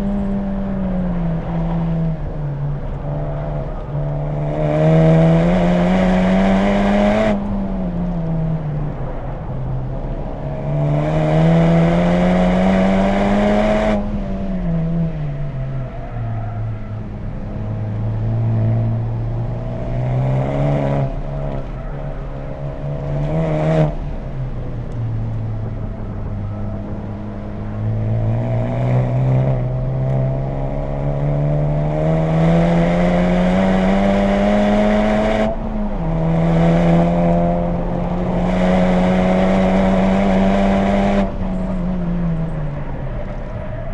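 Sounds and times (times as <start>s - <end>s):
car engine accelerating: 0.0s - 43.9s
road and wind noise: 0.0s - 43.9s.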